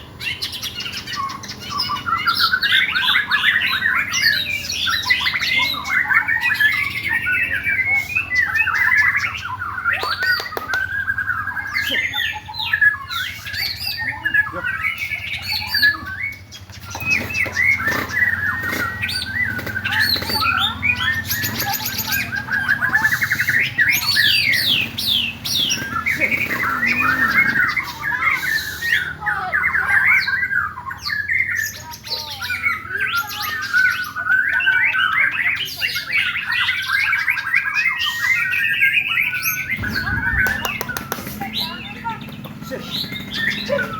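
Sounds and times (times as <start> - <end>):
songbirds singing in chorus: 0.0 - 43.9.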